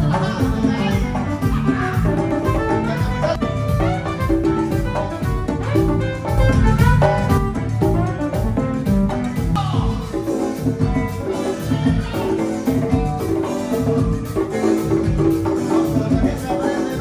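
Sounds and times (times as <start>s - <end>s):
congas struck by hand: 0.0s - 17.0s
latin band playing: 0.0s - 17.0s.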